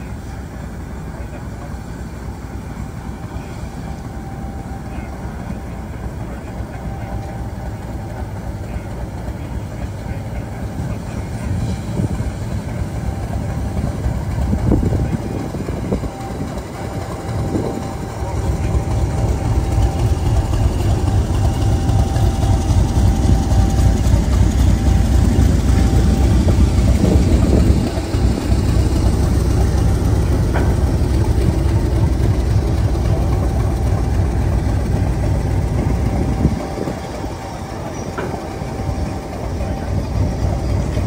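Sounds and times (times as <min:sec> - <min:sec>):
diesel locomotive engine idling: 0:00.0 - 0:41.0
faint whine: 0:00.0 - 0:41.0.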